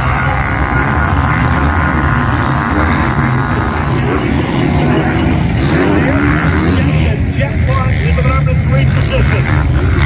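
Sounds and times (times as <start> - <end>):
motocross bike engines rumbling: 0.0 - 10.0.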